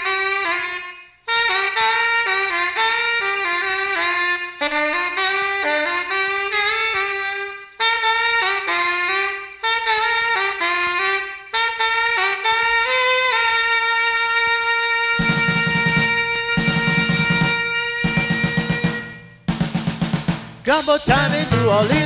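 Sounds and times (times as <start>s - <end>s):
saxophone and brass jazz melody: 0.0s - 22.0s.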